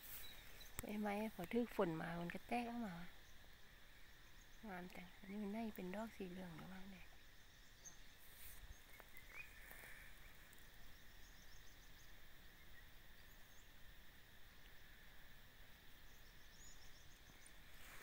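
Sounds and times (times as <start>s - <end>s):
faint insect drone: 0.0s - 18.0s.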